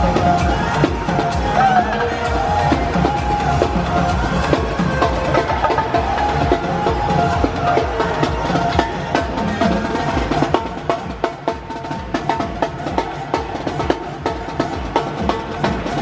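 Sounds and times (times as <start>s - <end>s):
backing music track: 0.0s - 16.0s
fast drumming: 0.0s - 16.0s.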